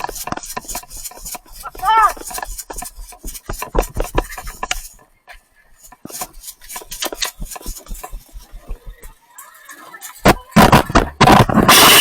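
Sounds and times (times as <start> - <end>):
sharp irregular clicks and knocks: 0.0 - 12.0.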